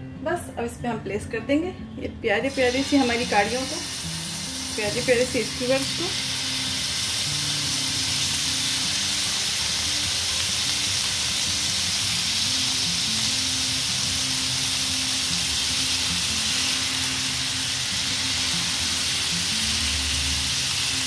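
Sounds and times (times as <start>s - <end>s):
chicken sizzling in a pan: 2.4s - 21.0s.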